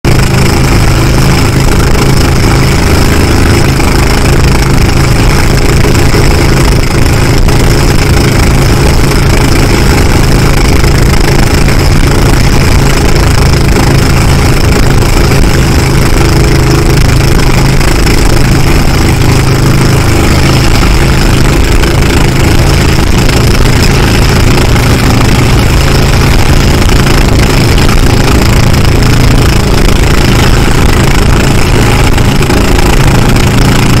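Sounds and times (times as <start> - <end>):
boat engine running: 0.0 - 34.0
water splashing along hull: 0.1 - 34.0.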